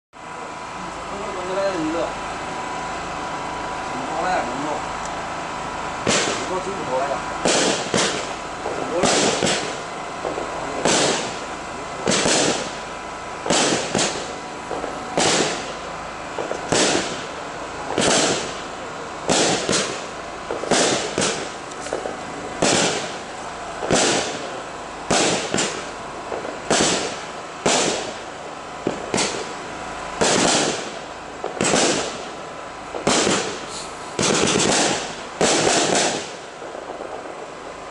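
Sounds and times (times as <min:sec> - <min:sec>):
fireworks bangs: 0:00.5 - 0:37.9.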